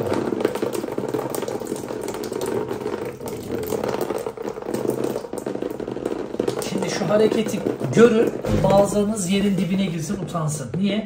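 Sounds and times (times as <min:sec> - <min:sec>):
water trickling into plastic tub: 0:00.0 - 0:11.0.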